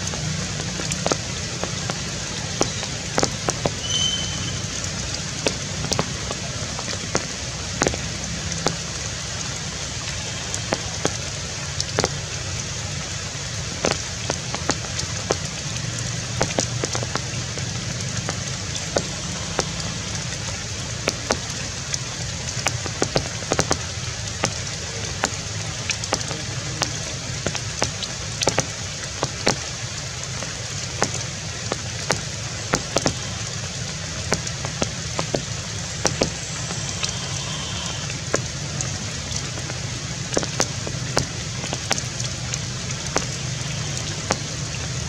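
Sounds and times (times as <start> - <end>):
rain hiss: 0.0 - 45.0
raindrops ticking close by: 0.0 - 45.0.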